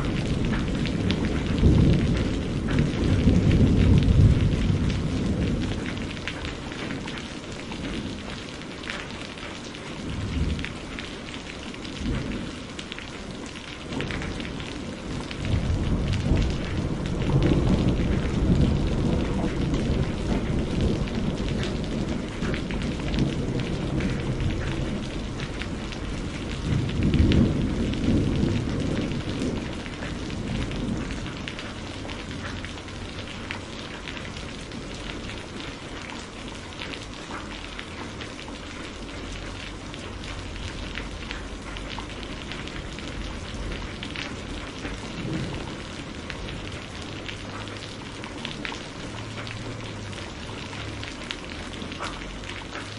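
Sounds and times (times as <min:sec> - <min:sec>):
rolling thunder: 0:00.0 - 0:08.8, 0:09.9 - 0:36.3, 0:40.0 - 0:51.7
steady rain falling: 0:00.0 - 0:52.9.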